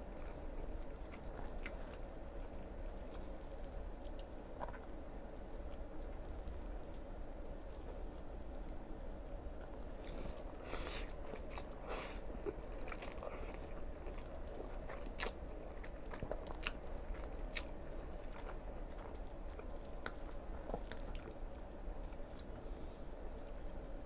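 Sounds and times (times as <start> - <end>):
chewing: 0.0 - 22.6.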